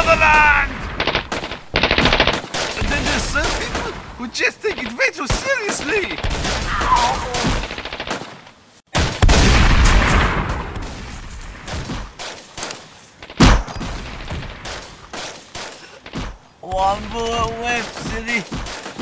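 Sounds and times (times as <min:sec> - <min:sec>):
rapid gunfire: 0:00.0 - 0:04.0, 0:05.3 - 0:10.8, 0:11.6 - 0:16.4, 0:17.6 - 0:19.0.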